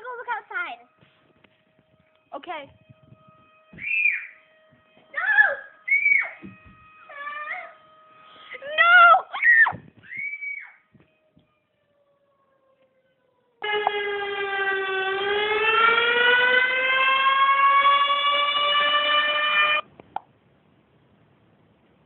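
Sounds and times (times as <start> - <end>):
tornado siren wailing: 0.0 - 19.9.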